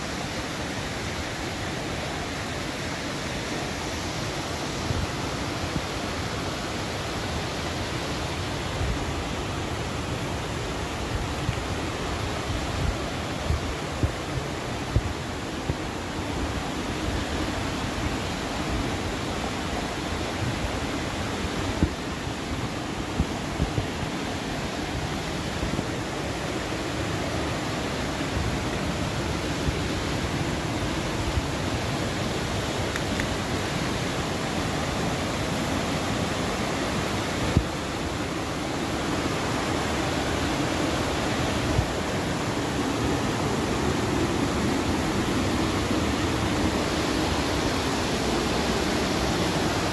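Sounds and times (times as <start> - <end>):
stream rushing over rocks: 0.0 - 49.9.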